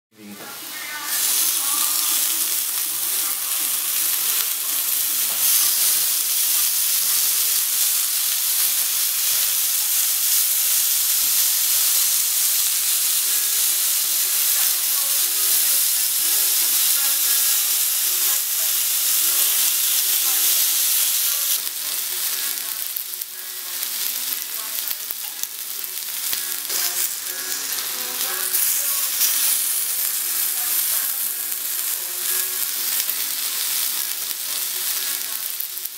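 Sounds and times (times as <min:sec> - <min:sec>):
meat sizzling on a grill: 0:00.4 - 0:35.9.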